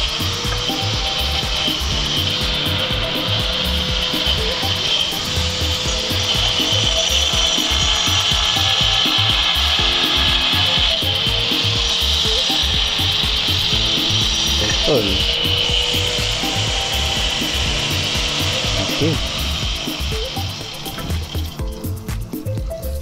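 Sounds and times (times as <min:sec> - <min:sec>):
angle grinder cutting metal: 0:00.0 - 0:22.1.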